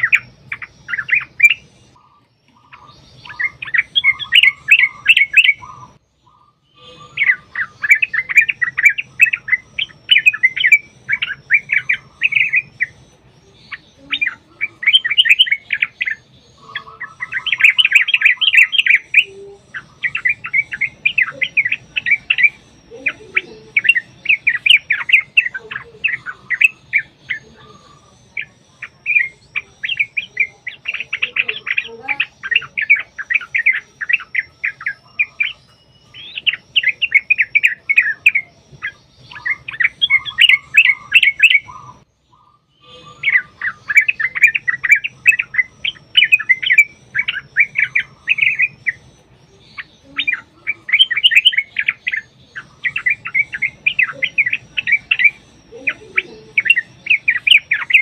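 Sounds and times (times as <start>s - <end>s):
bulbuls singing: 0.0s - 58.0s
faint low hum: 0.0s - 58.0s.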